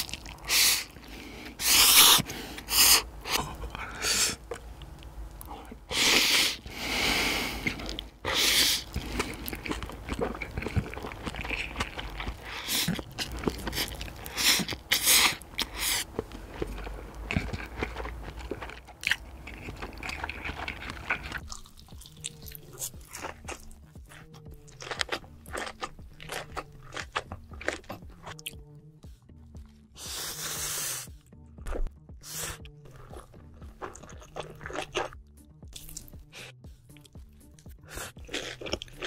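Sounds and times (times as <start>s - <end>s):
chewing and crunching food: 0.0s - 30.8s, 31.6s - 39.0s
quiet background music: 0.0s - 39.0s.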